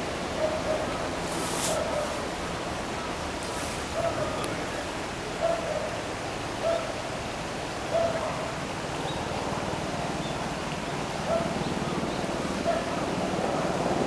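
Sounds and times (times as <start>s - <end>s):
river water running: 0.0s - 14.0s.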